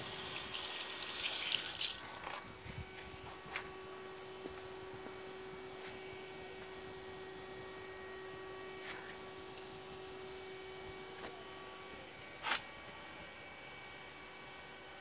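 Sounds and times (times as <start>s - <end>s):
steady low hum: 1.9s - 15.0s.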